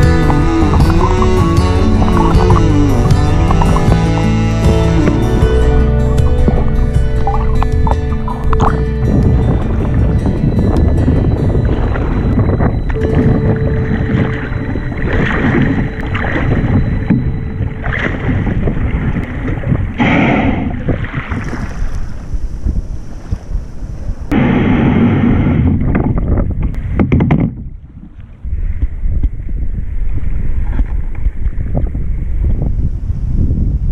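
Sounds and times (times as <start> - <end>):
water splashing against kayak: 0.0 - 33.0
wind buffeting microphone: 0.0 - 33.9.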